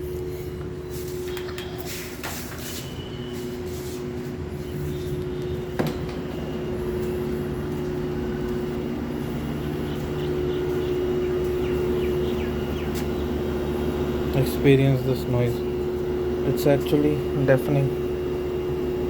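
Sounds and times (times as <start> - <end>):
air conditioner unit humming: 0.0 - 19.0.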